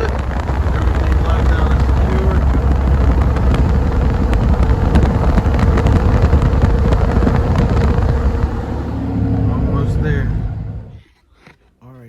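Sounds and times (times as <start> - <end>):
truck engine and road rumble: 0.0 - 11.0
wind noise: 0.0 - 11.0
constant hum: 0.0 - 12.0.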